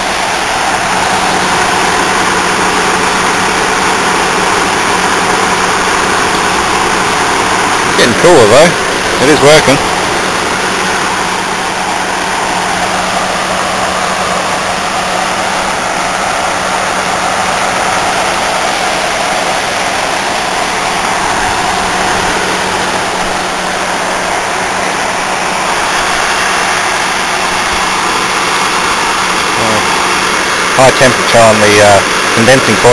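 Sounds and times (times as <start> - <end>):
air conditioner fan blowing: 0.0 - 32.9
compressor hum: 0.0 - 32.9.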